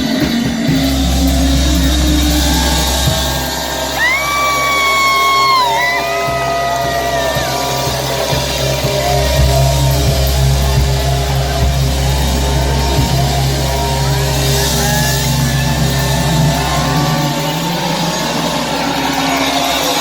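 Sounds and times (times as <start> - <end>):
heavy low bass: 0.0 - 20.0
live band playing amplified music: 0.0 - 20.0.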